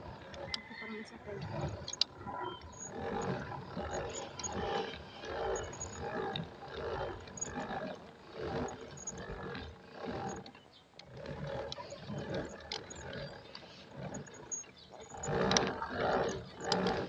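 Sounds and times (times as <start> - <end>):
pedal boat whooshing pulses: 0.0 - 17.0.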